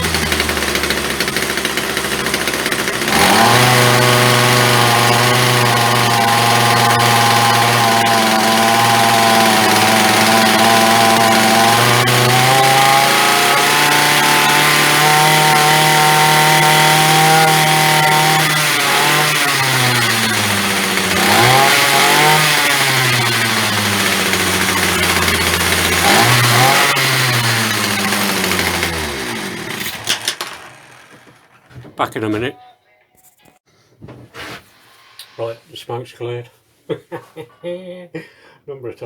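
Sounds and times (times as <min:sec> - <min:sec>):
small two-stroke engine running: 0:00.0 - 0:31.8.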